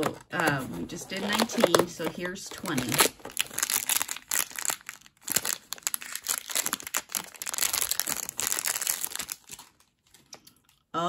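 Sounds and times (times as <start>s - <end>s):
paper bag crinkling and rustling: 0.0s - 10.4s.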